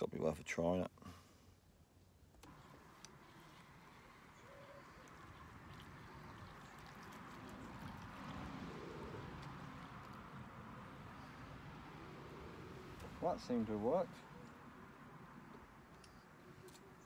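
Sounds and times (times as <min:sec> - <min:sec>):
faint outdoor noise by water: 0:02.4 - 0:17.0.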